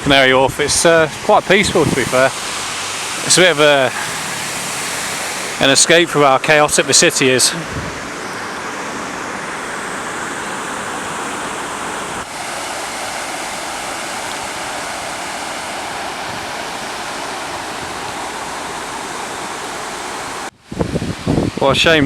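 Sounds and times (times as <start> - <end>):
falling water rushing: 0.0 - 22.0.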